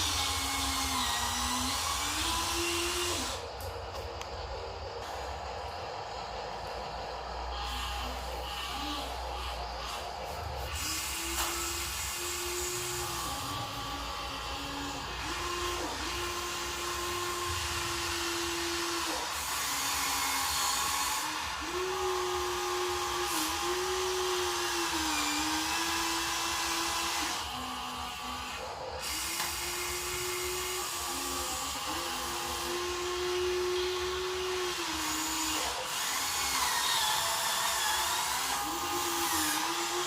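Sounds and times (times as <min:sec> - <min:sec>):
toy electric motors whining: 0:00.0 - 0:40.0.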